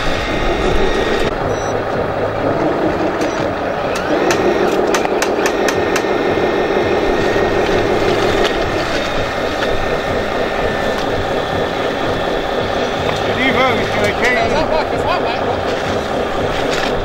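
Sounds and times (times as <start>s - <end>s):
hydraulic pump whine: 0.0s - 17.0s
sharp clicks and knocks: 0.0s - 17.0s.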